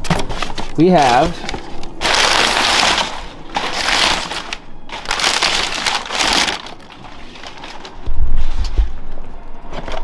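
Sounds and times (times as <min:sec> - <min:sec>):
packing paper rustling and crinkling: 0:00.0 - 0:09.0.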